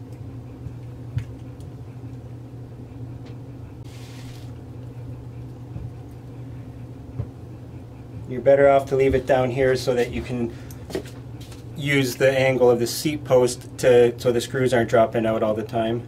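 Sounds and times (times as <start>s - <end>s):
low hum: 0.0s - 14.4s.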